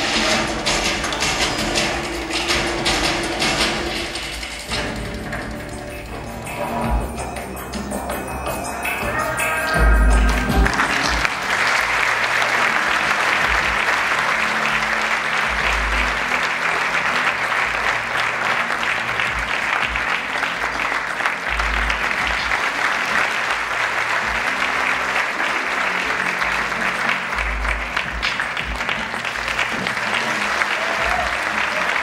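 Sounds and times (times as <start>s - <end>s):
audience applauding: 0.0s - 32.0s
backing music: 0.0s - 32.0s.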